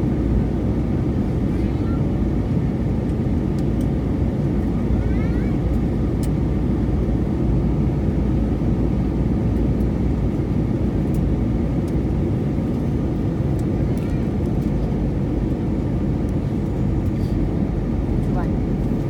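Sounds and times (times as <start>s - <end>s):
airliner cabin engine roar: 0.0s - 19.0s.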